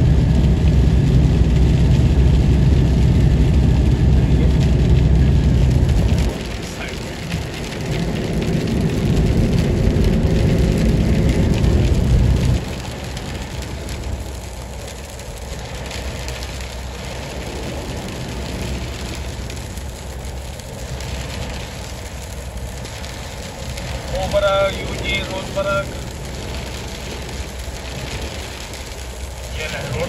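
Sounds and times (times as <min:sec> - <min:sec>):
heavy low rumble: 0:00.0 - 0:30.0
rain on car windshield: 0:00.0 - 0:30.0
wet tyre road noise: 0:00.0 - 0:30.0.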